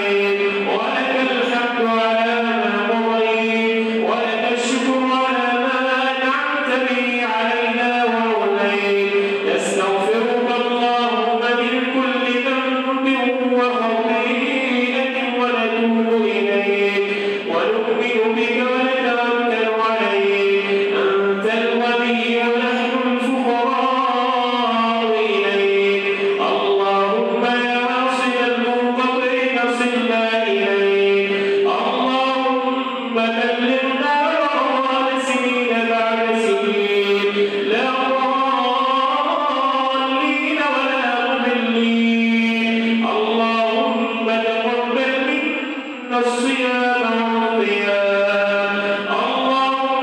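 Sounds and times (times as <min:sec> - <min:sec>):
man chanting: 0:00.0 - 0:50.0.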